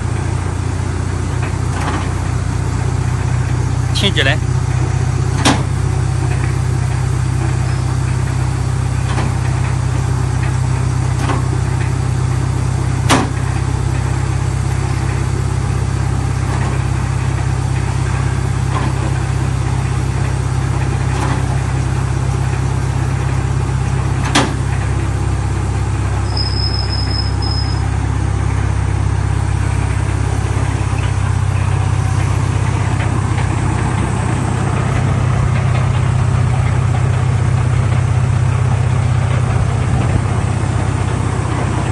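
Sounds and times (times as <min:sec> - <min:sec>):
wood chipper humming: 0:00.0 - 0:41.9.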